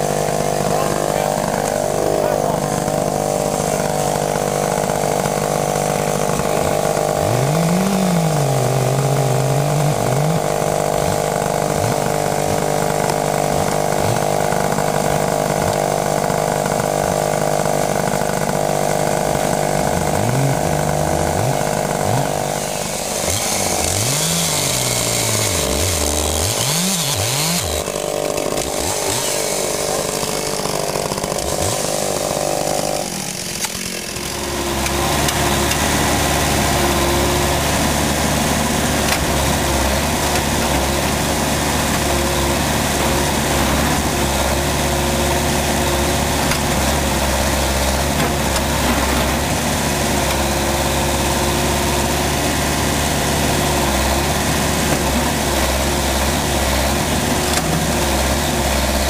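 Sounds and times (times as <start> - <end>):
backhoe engine idling: 0.0 - 59.0
chainsaw cutting log: 0.0 - 59.0.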